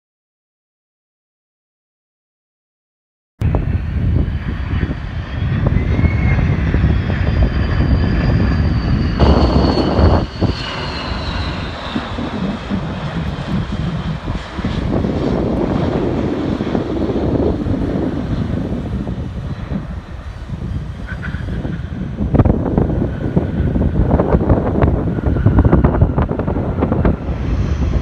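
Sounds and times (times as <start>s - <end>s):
high jet whine: 3.4s - 28.0s
jet engine rumble: 3.4s - 28.0s
wind on microphone: 3.4s - 28.0s.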